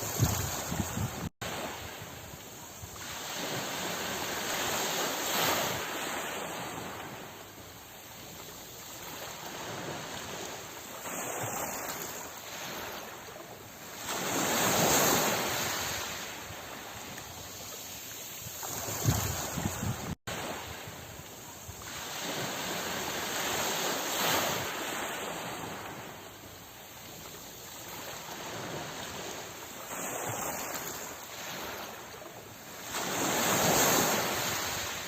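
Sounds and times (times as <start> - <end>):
sea waves breaking: 0.0 - 35.0.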